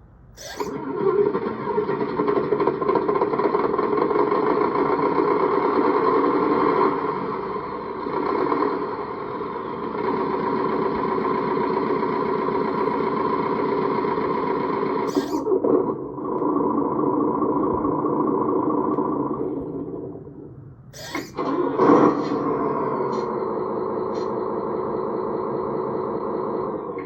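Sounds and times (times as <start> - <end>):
simulated diesel engine: 0.0 - 27.0.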